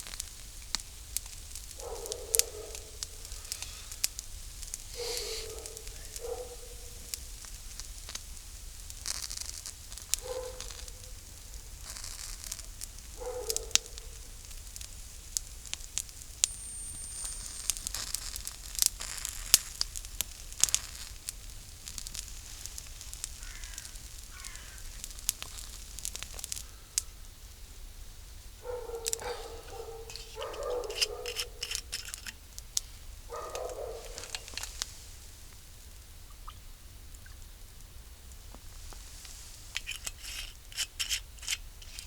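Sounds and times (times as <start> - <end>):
burning wood popping: 0.0 - 42.0
campfire crackling: 0.0 - 42.0.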